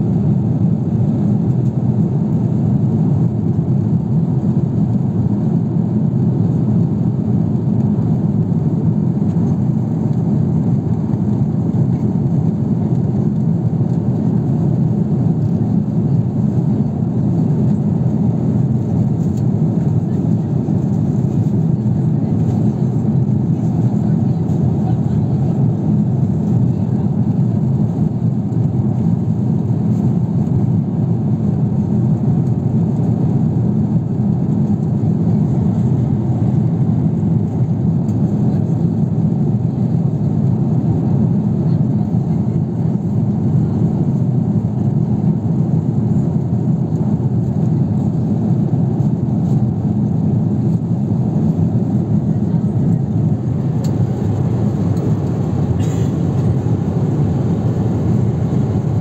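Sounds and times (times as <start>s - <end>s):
airplane cabin engine and airflow rush: 0.0s - 59.0s.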